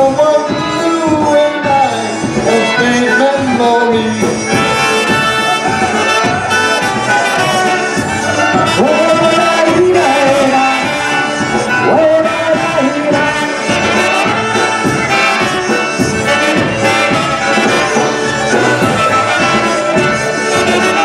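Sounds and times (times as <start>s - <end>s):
concertina: 0.0s - 21.0s
polka band playing: 0.0s - 21.0s
trumpet: 0.0s - 21.0s.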